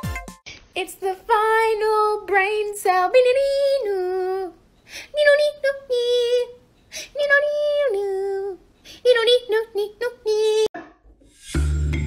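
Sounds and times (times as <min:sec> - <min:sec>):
person singing in high voice: 0:00.8 - 0:10.7.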